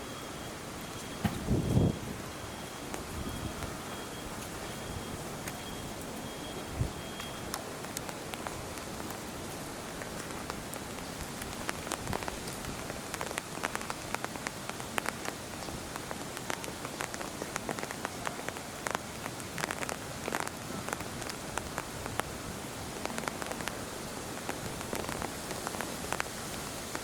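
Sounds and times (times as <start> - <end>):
rain falling steadily: 0.0 - 27.0.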